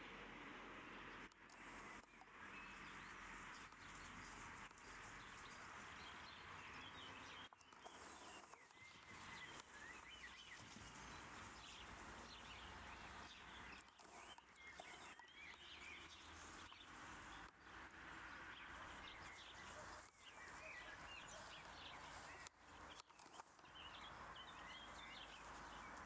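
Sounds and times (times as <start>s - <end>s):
faint birdsong chirps: 0.0s - 26.0s
steady outdoor hiss: 0.0s - 26.0s.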